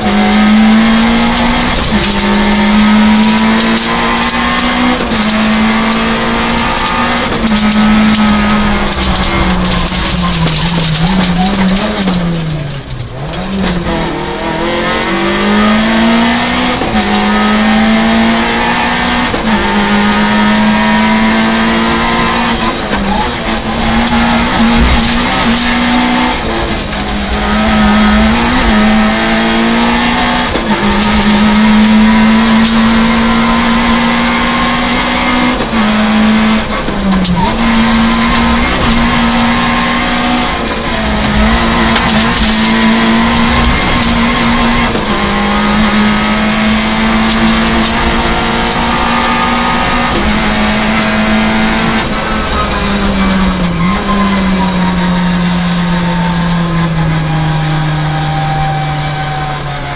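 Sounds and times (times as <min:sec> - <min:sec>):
rally car engine at high revs: 0:00.0 - 0:59.9.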